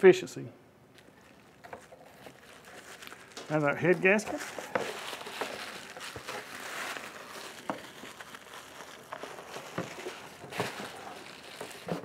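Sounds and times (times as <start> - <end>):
plastic packaging crinkling: 0.9 - 12.0.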